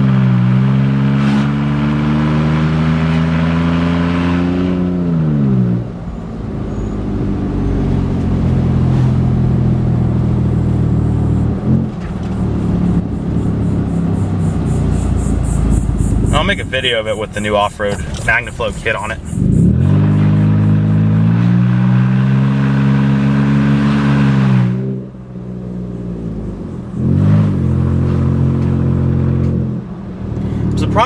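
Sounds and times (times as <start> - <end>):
loud car engine revving: 0.0 - 5.9, 7.4 - 31.0.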